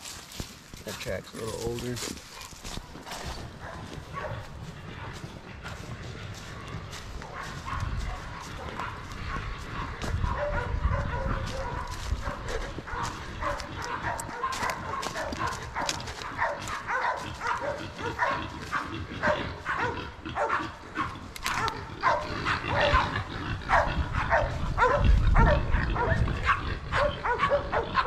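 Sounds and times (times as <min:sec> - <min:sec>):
dogs barking: 0:02.2 - 0:28.0.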